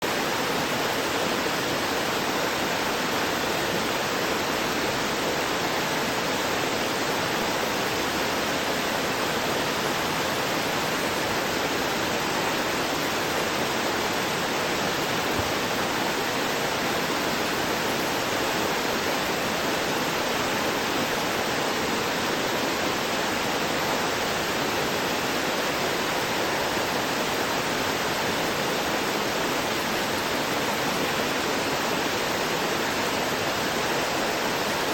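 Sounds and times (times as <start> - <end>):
waterfall rushing and gurgling: 0.0 - 34.9.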